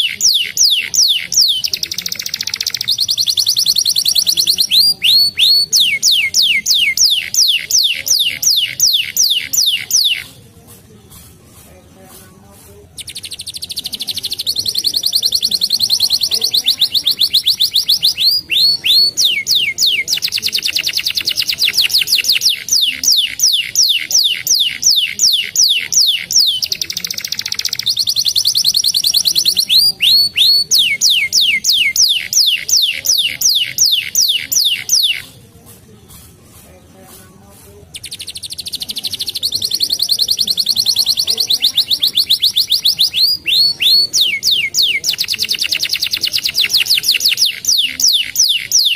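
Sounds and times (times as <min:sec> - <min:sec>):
canary singing: 0:00.0 - 0:35.5, 0:36.1 - 0:48.9.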